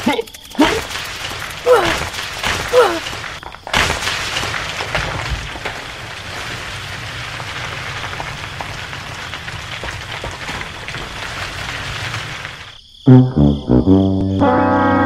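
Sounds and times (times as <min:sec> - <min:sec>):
rocks tumbling with low rumble: 0:00.0 - 0:13.0
scattered rock clicks: 0:00.4 - 0:12.8.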